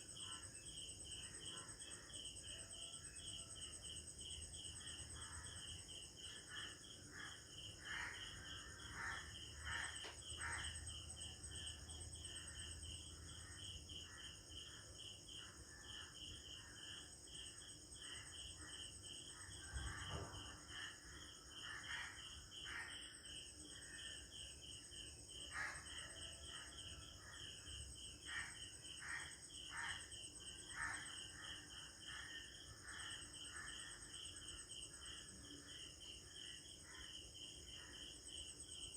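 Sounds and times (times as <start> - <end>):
crickets chirping: 0.0 - 38.9
high-pitched insect trill: 0.0 - 38.9.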